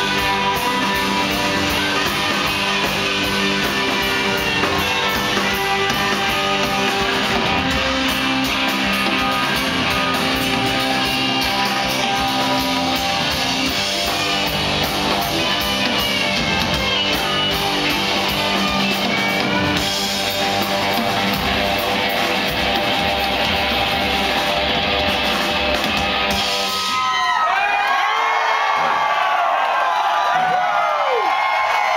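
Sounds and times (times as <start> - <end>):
hard rock band playing: 0.0 - 27.6
crowd cheering: 0.0 - 31.9.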